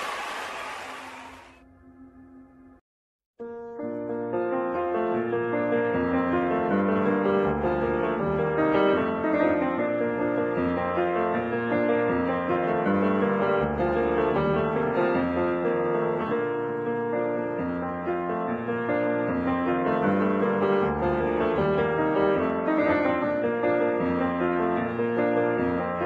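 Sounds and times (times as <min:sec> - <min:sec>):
piano music: 0:03.4 - 0:26.0.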